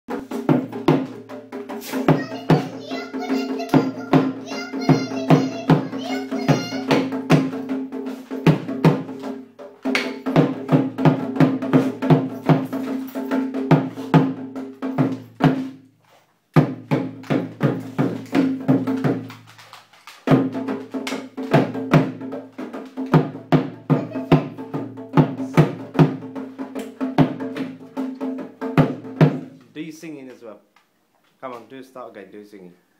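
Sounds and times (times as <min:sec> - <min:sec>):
drum beaten with sticks: 0:00.1 - 0:15.8, 0:16.5 - 0:19.5, 0:20.2 - 0:30.0.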